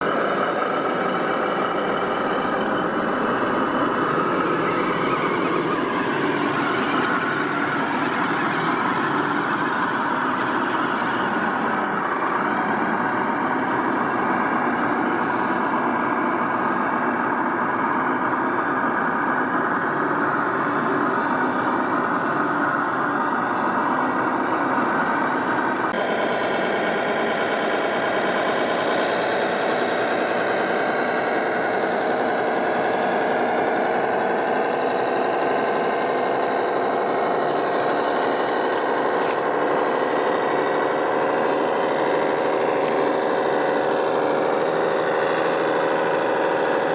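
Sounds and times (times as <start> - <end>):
model machine engine idling: 0.0 - 46.9.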